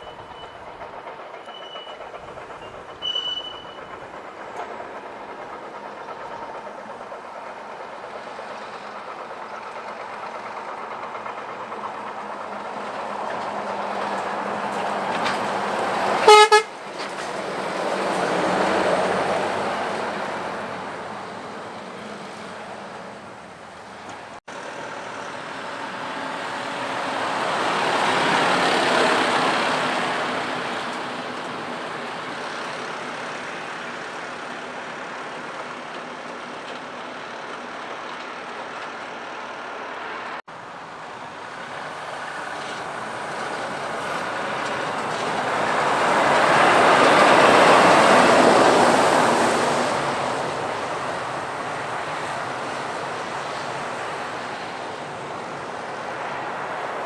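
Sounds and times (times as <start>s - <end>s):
trucks passing: 0.0s - 57.0s
steady road hum: 2.0s - 57.0s.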